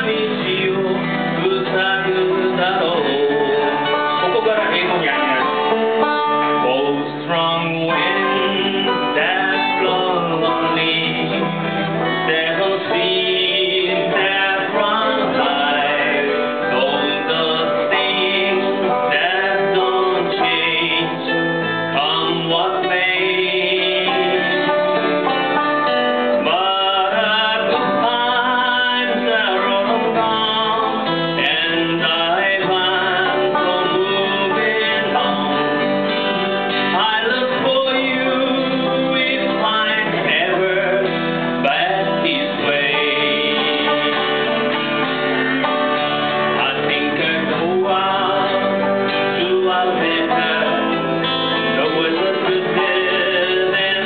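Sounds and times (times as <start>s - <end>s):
acoustic guitars strumming: 0.0s - 54.0s
person singing: 0.0s - 54.0s.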